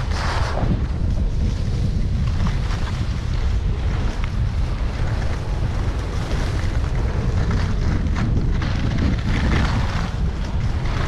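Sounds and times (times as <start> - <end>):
skis sliding on snow: 0.0 - 11.0
wind buffeting microphone: 0.0 - 11.0.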